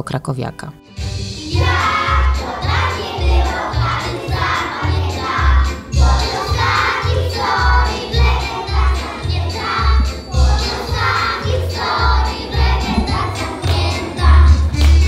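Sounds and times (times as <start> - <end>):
lively folk dance music: 1.0 - 15.0
voices singing: 1.4 - 15.0.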